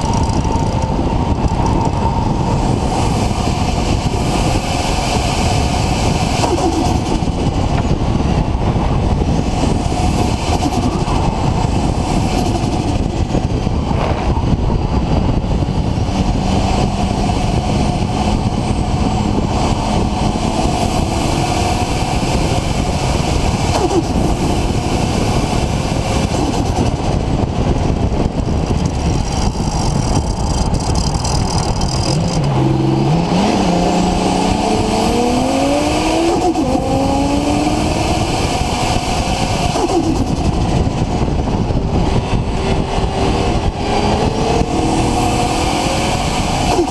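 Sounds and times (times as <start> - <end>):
loud rush of noise: 0.0 - 46.9
turbo car engine revving: 0.0 - 46.9.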